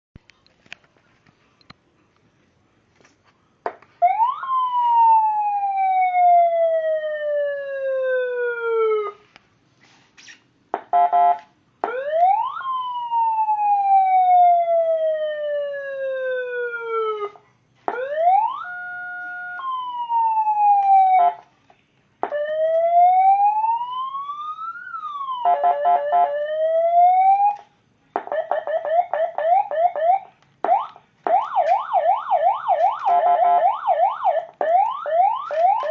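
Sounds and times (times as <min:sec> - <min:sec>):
electronic vehicle siren: 0:04.0 - 0:09.3, 0:10.8 - 0:21.5, 0:22.2 - 0:35.9.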